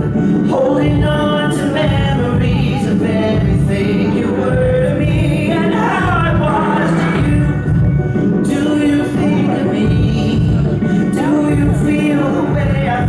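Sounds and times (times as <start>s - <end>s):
amplified backing music: 0.0s - 13.0s
man singing into microphone: 0.0s - 13.0s.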